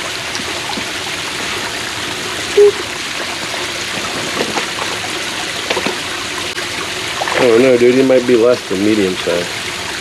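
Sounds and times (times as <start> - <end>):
creek water running over rocks: 0.0 - 10.0.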